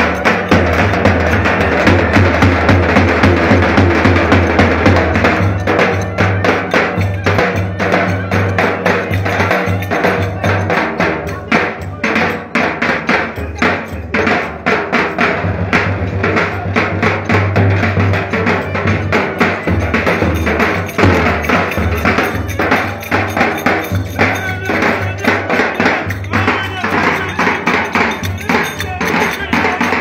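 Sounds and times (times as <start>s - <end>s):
bass drum beats: 0.0s - 6.2s, 11.9s - 30.0s
metallic clacking percussion: 0.0s - 30.0s.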